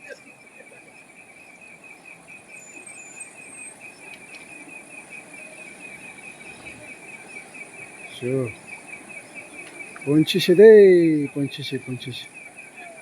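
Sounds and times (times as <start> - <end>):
faint outdoor hiss: 0.0 - 13.0
insect chirping: 0.0 - 13.0.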